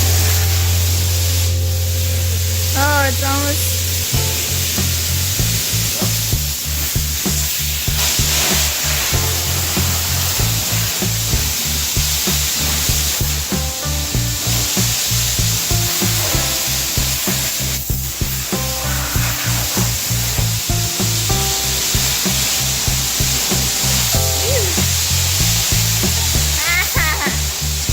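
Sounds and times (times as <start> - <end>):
music with pulsing bass: 0.0 - 27.9
pressure washer spray hissing: 0.0 - 27.9.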